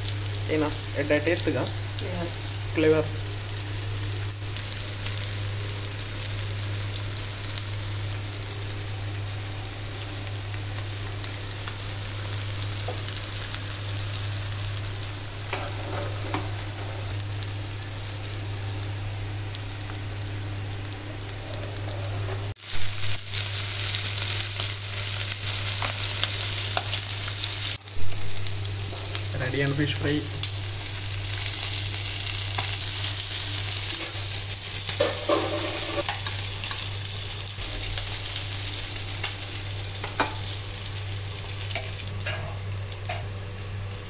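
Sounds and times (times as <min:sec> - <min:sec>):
fish sizzling in oil: 0:00.0 - 0:44.0.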